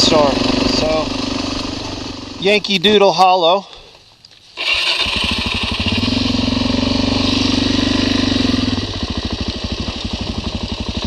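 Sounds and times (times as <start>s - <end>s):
motorcycle engine running: 0.0s - 3.0s, 4.6s - 11.0s.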